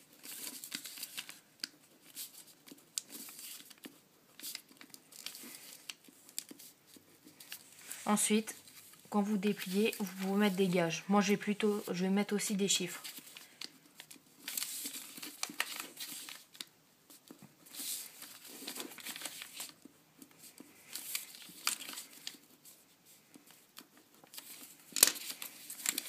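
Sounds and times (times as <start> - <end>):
sharp paper crackle: 0.0 - 12.0, 12.9 - 26.0
paper rustling and crinkling: 0.0 - 26.0.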